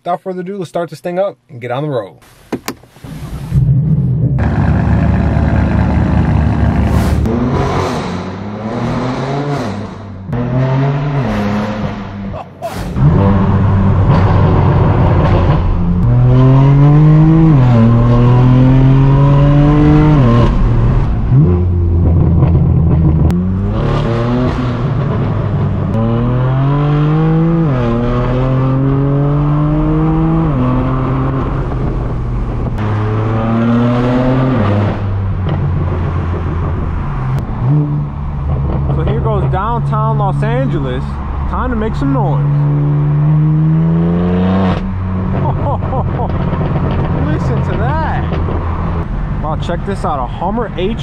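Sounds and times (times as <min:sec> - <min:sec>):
car engine accelerating through gears: 0:03.3 - 0:49.4.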